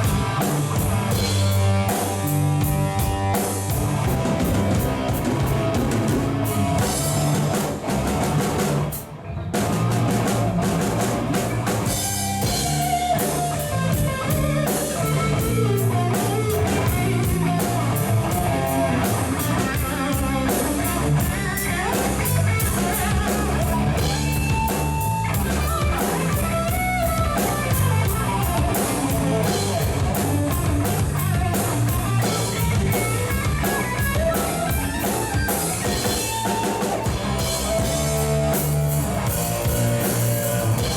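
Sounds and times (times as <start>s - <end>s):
rock music with guitar and drums: 0.0s - 40.9s.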